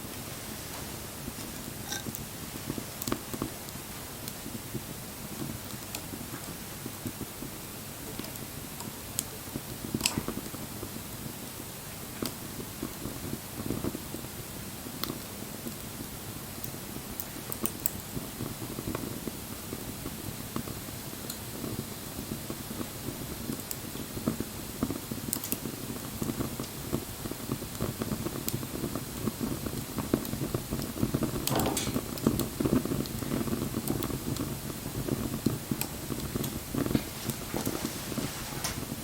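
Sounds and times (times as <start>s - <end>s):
low rush of fire: 0.0s - 39.0s
wood fire crackling: 0.0s - 39.0s
sharp pops of fire: 0.6s - 11.4s, 12.2s - 37.8s.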